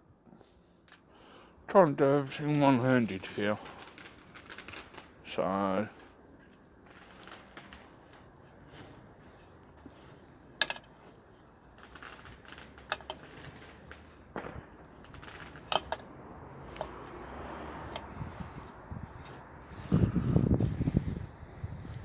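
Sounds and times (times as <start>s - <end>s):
bonfire crackling and popping: 2.0s - 20.5s.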